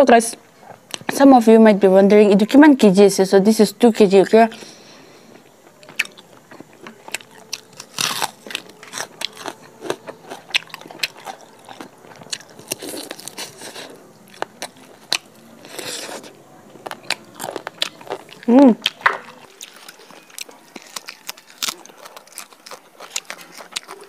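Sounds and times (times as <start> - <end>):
person chewing: 4.5 - 24.0.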